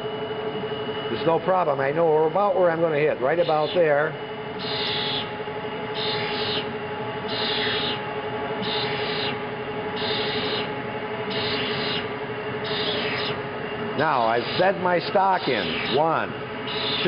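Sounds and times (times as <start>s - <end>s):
motor hum: 0.0s - 17.0s.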